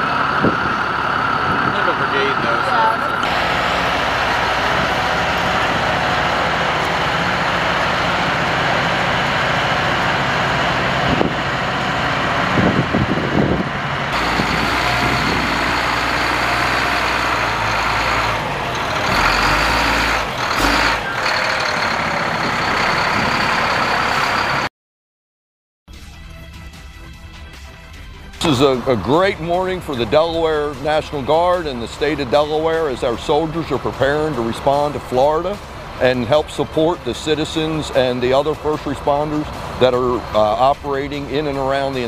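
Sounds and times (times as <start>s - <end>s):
diesel truck engines rumbling: 0.0s - 24.7s, 26.4s - 42.0s.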